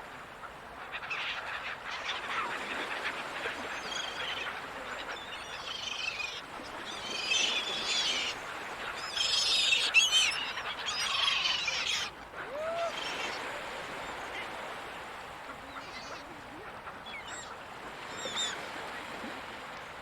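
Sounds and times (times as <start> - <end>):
gulls calling: 1.1 - 18.7.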